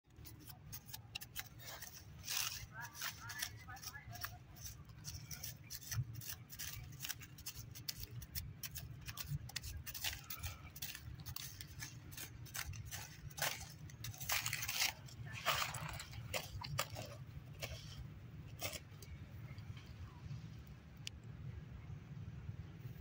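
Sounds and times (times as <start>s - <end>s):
monkey chewing crunches: 0.1s - 19.6s.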